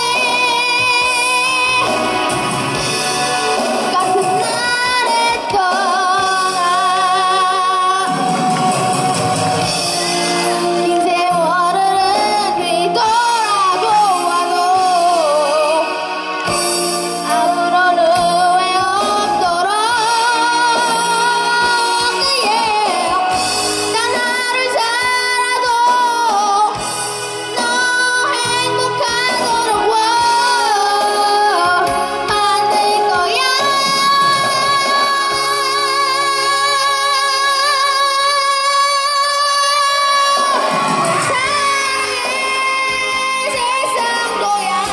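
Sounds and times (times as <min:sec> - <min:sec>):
backing track music: 0:00.0 - 0:44.9
child singing pop song: 0:00.0 - 0:44.9.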